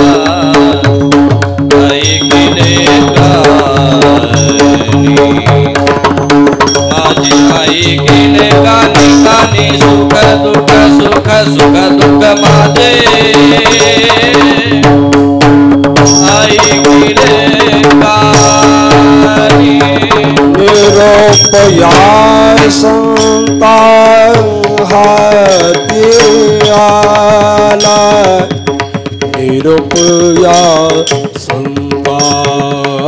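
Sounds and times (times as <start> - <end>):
tabla playing quick rhythm: 0.0 - 33.0.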